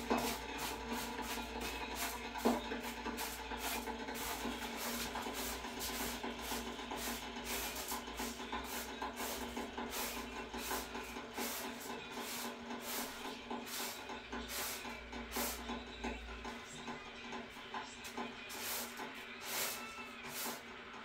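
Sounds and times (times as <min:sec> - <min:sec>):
background music with held tones: 0:00.0 - 0:21.0.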